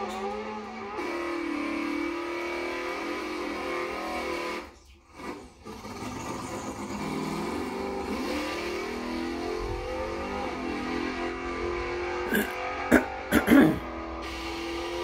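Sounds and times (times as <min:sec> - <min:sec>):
car engine revving hard: 0:00.0 - 0:04.7, 0:05.6 - 0:15.0.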